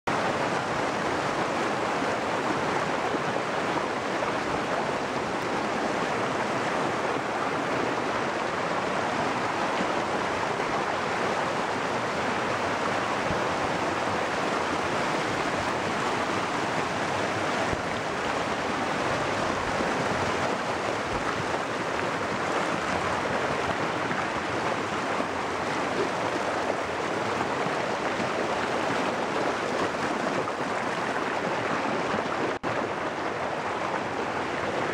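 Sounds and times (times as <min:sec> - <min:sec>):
white water rushing over rocks: 0:00.1 - 0:34.9.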